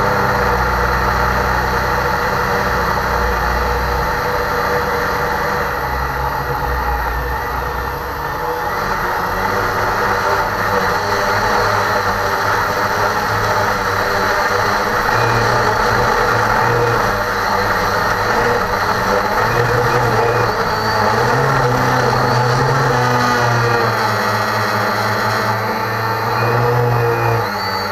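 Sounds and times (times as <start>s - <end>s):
drone propellers whirring: 0.0s - 27.9s.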